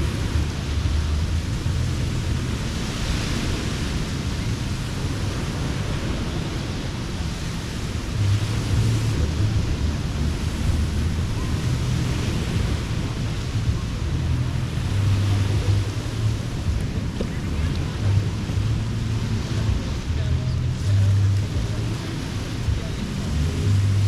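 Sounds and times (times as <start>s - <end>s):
ocean surf washing onto beach: 0.0s - 24.0s
wind rumbling on microphone: 0.0s - 24.0s.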